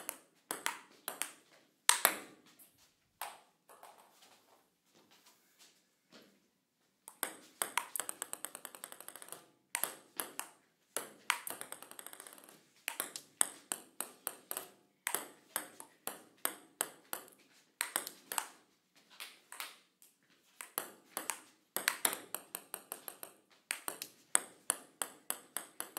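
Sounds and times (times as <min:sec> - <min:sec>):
table tennis ball bouncing: 0:00.0 - 0:02.4, 0:03.2 - 0:04.2, 0:07.0 - 0:19.9, 0:20.6 - 0:25.9.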